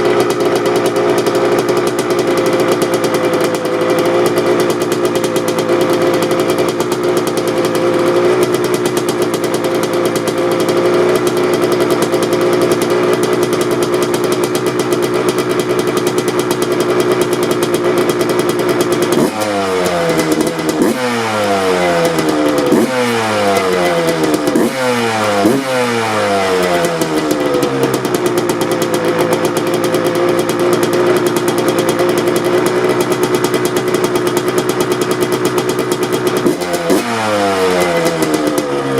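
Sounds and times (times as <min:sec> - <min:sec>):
dirt bike engine idling and revving: 0:00.0 - 0:38.9.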